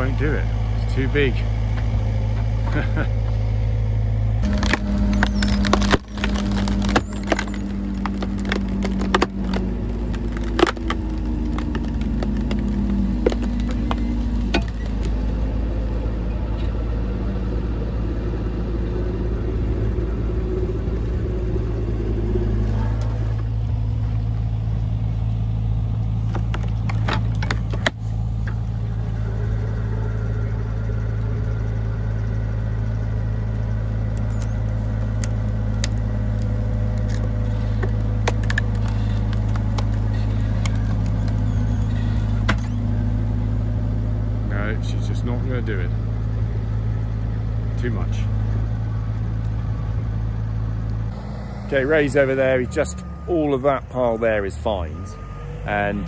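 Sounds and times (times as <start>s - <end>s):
excavator engine running: 0.0s - 56.0s
wood cracking and creaking: 4.3s - 17.6s, 19.2s - 56.0s.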